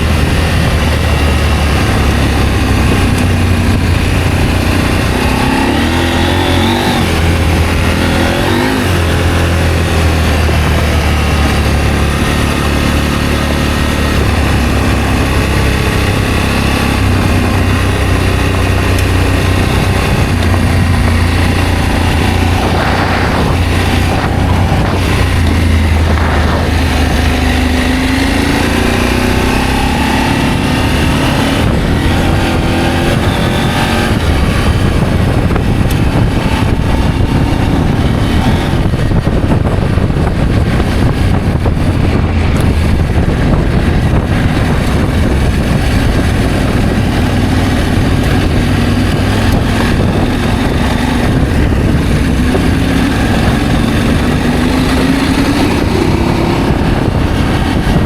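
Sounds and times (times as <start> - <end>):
motorcycle engine running: 0.0 - 58.0
steady rushing noise: 0.0 - 58.0.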